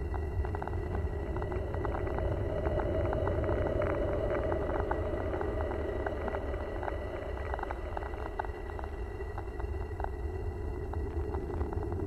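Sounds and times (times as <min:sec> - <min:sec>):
deep rumble: 0:00.0 - 0:12.0.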